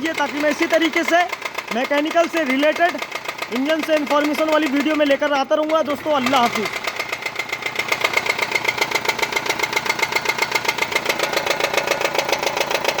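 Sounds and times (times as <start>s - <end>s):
car engine idling: 0.0s - 13.0s
fast tapping from engine: 0.0s - 13.0s.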